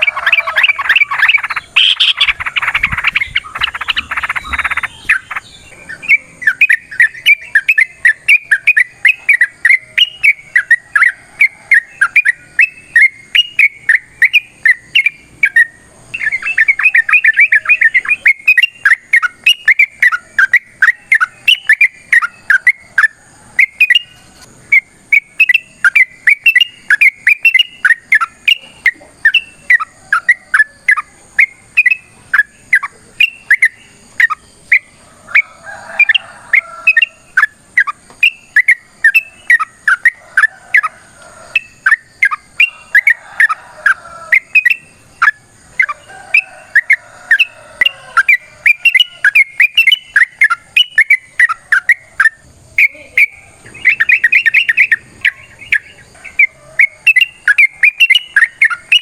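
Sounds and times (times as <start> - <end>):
bulbul whistled chirps: 0.0 - 59.0.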